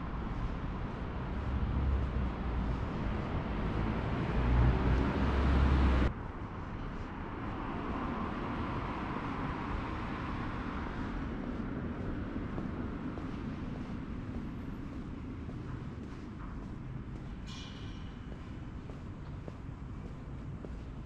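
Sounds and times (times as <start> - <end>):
steady traffic hum: 0.0 - 21.0
vehicles rumbling past: 0.0 - 21.0.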